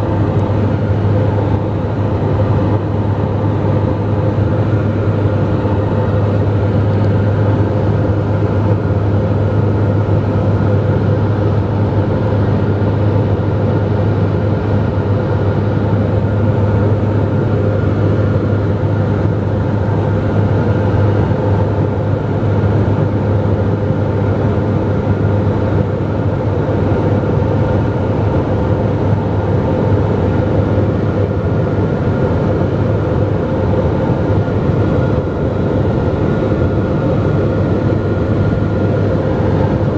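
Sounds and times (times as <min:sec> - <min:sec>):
propeller aircraft cabin drone: 0:00.0 - 0:39.9.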